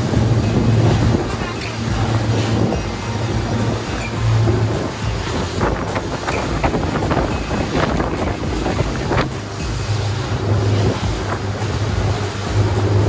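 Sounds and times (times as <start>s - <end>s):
boat engines droning: 0.0s - 13.0s
water rushing along hulls: 0.0s - 13.0s
wind buffeting microphone: 0.0s - 13.0s.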